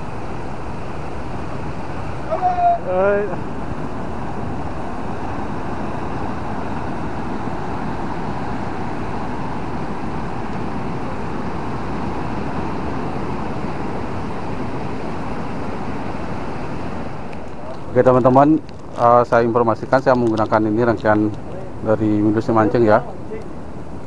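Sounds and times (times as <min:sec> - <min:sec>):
sea surf breaking: 0:00.0 - 0:19.8
wind: 0:00.0 - 0:24.0.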